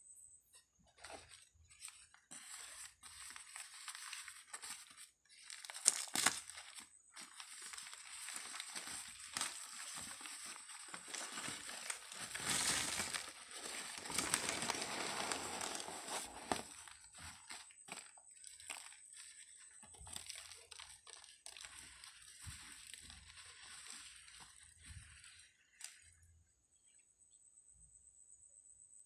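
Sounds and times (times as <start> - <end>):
newspaper rustling and crinkling: 0.9 - 26.1.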